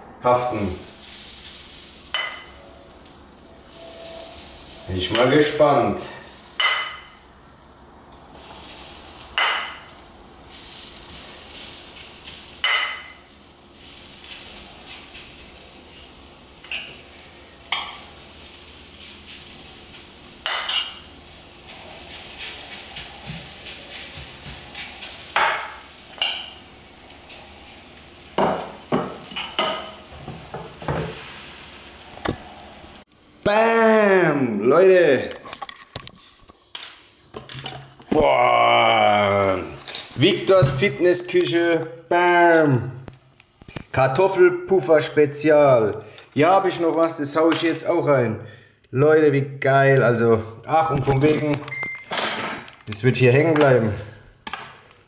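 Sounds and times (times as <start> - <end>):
faint batter sizzle: 0.2 - 35.2, 35.9 - 48.8.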